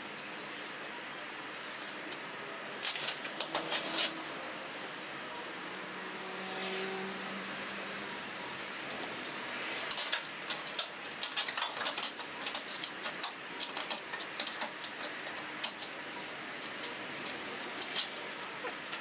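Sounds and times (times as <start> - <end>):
insulation tearing crackles and rustles: 0.0 - 5.8, 7.1 - 19.0.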